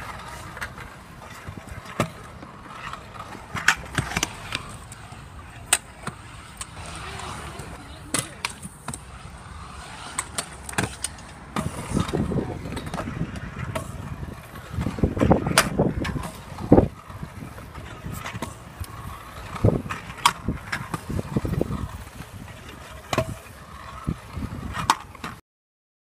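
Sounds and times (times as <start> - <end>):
scooter wheels rolling on concrete: 0.0 - 25.4.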